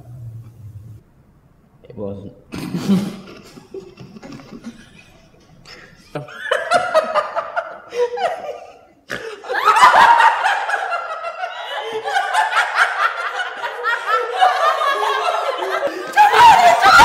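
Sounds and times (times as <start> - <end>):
people laughing: 2.5 - 17.0.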